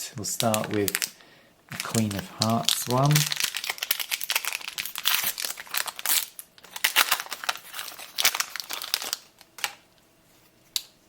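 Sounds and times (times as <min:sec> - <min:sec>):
foil wrapper crinkling: 0:00.4 - 0:09.8.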